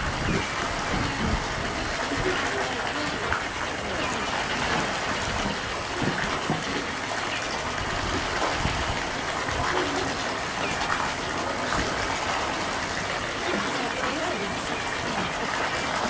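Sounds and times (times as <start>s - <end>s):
pool water rushing: 0.0s - 16.0s.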